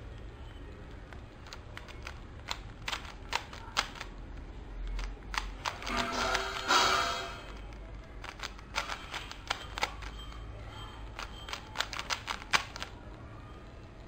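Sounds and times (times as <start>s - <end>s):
puzzle cube layers clicking: 0.0s - 13.2s.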